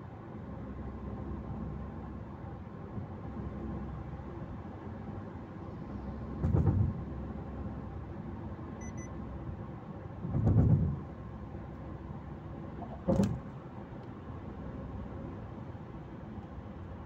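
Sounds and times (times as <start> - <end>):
road and engine noise: 0.0 - 17.0.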